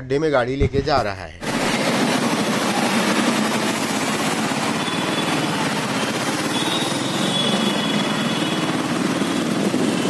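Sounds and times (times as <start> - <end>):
wind: 0.8 - 10.0
tyres on wet road: 1.5 - 10.0.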